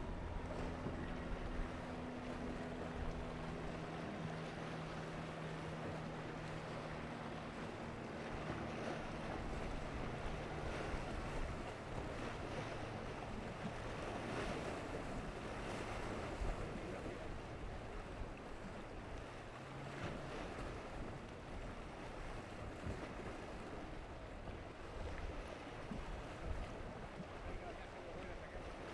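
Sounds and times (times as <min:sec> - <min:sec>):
outboard motor hum: 0:00.0 - 0:28.9
splashing spray and waves: 0:00.0 - 0:28.9.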